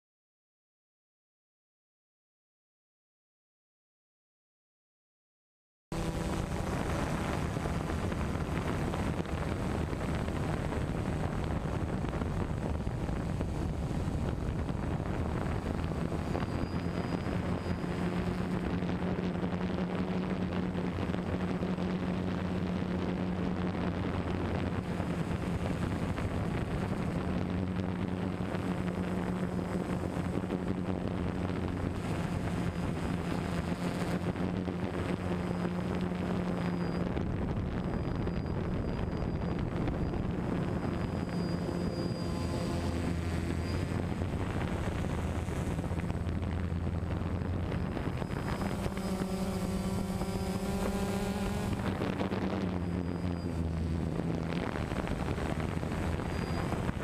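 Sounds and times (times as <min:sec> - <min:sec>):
drone propellers humming: 0:05.9 - 0:57.0
wind buffeting microphone: 0:06.0 - 0:57.0.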